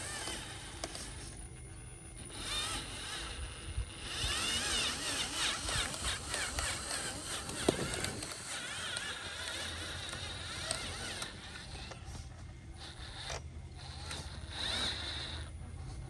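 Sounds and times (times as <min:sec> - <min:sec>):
electric motors whining: 0:00.0 - 0:16.0
steady low hum: 0:00.0 - 0:16.0.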